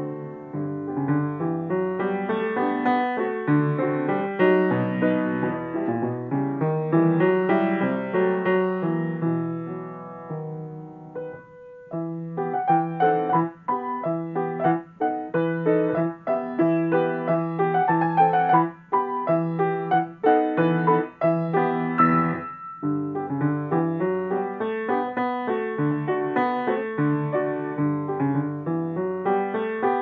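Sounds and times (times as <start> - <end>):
solo grand piano: 0.0 - 30.0.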